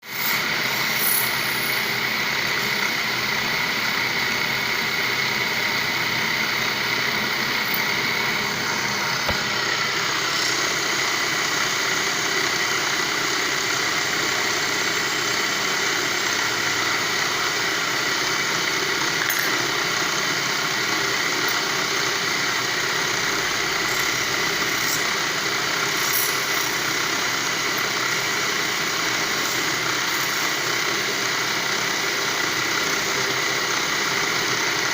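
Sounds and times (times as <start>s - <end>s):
polishing machine whining: 0.1s - 34.9s.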